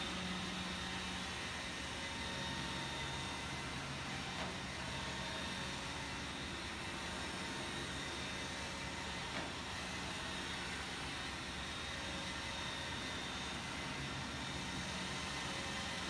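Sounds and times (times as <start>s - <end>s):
electric fans whirring: 0.0s - 16.0s.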